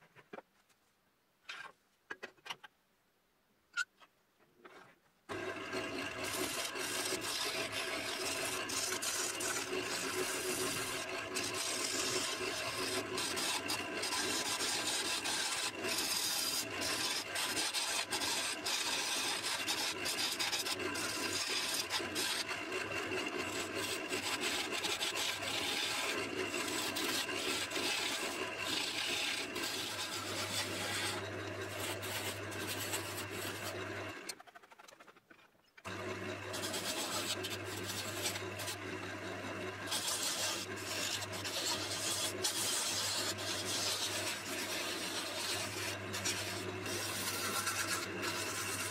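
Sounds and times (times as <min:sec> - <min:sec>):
lathe motor hum: 0:05.3 - 0:34.4, 0:35.9 - 0:48.9
gouge shaving wood: 0:05.3 - 0:48.9.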